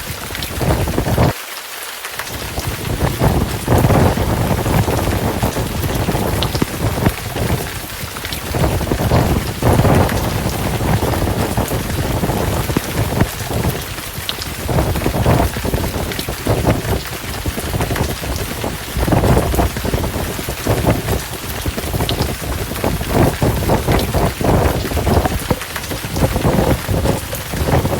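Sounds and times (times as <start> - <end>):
heavy rain falling: 0.0 - 27.9
low rumbles of thunder: 2.4 - 27.9.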